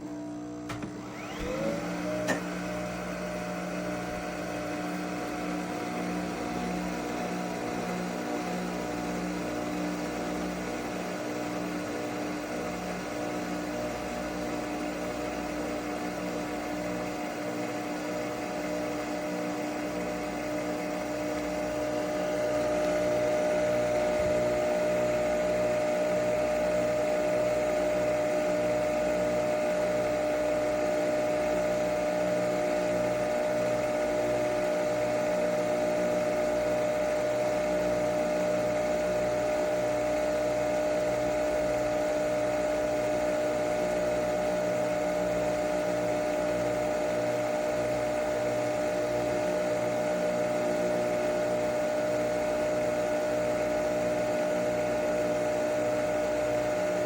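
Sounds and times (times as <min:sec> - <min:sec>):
coffee machine humming: 0:00.0 - 0:57.0.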